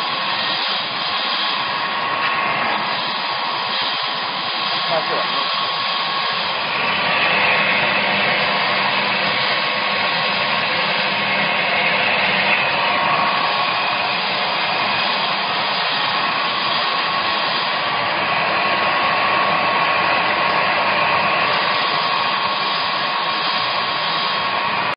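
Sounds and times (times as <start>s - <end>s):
machine motor whirring: 0.0s - 24.9s.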